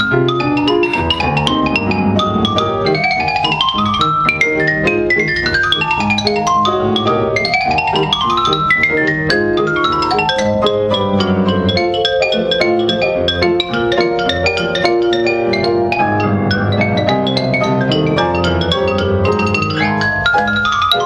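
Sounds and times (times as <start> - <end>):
grand piano bass notes and chords: 0.0 - 21.0
xylophone playing fast ragtime runs: 0.0 - 21.0.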